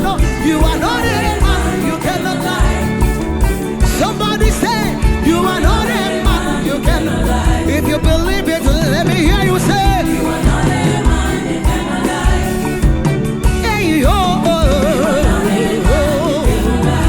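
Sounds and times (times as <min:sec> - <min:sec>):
band playing a steady beat: 0:00.0 - 0:17.0
gospel choir singing: 0:00.0 - 0:17.0.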